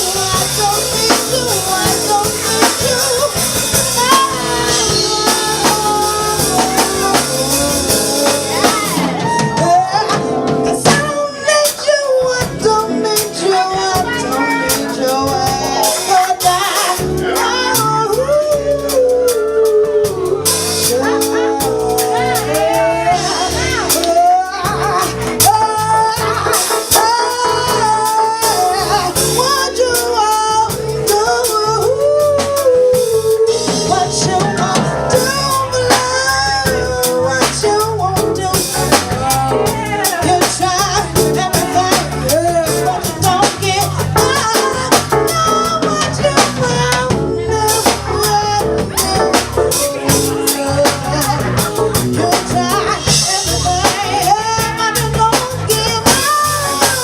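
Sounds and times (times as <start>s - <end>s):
drum kit beat: 0.0s - 57.0s
live band playing: 0.0s - 57.0s.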